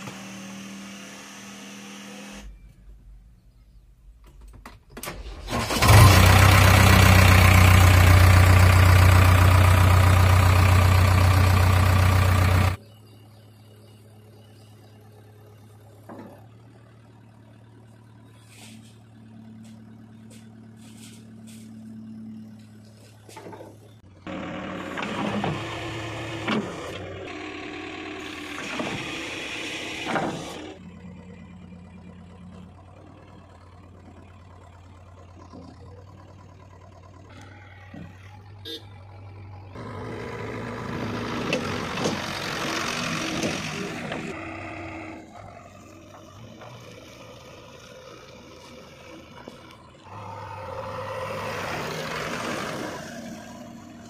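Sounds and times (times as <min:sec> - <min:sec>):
diesel engine running and revving: 0:00.0 - 0:03.4, 0:05.1 - 0:54.0.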